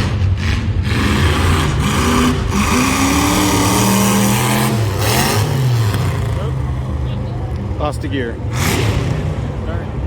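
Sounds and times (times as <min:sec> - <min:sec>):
car engine revving high: 0:00.0 - 0:07.0, 0:08.4 - 0:10.0.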